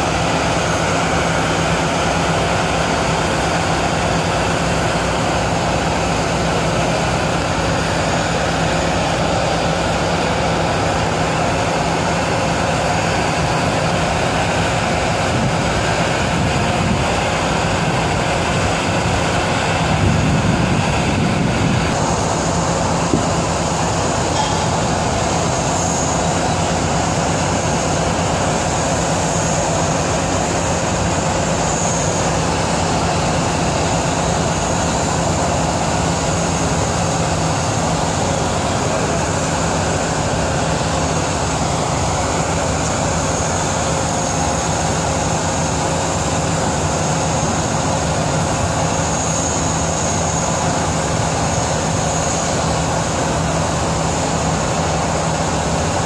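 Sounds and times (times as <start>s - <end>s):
constant low hum: 0.0s - 56.0s.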